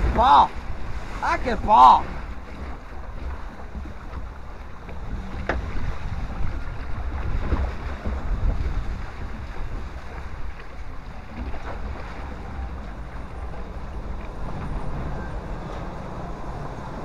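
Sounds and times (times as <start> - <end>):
low rumble: 0.0 - 17.0
water rushing and splashing: 0.0 - 17.0
wind buffeting microphone: 0.0 - 17.0.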